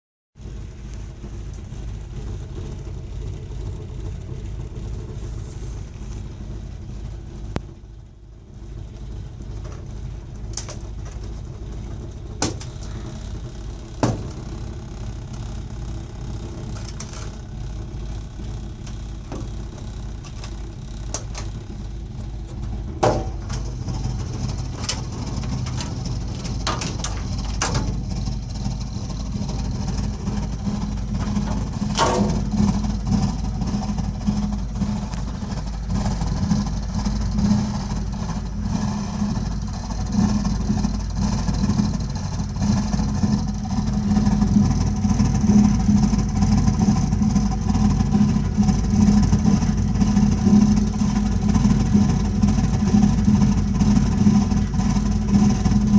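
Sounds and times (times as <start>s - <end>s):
gas boiler low drone: 0.4s - 55.9s.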